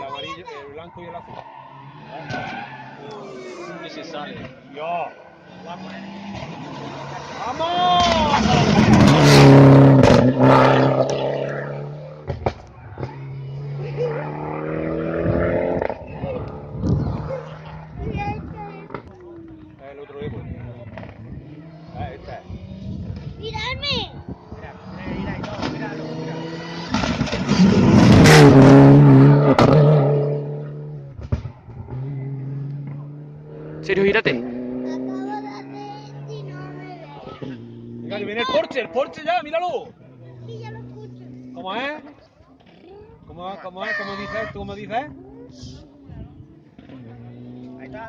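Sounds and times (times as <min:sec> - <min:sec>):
rally car engine passing: 0:00.0 - 0:48.0.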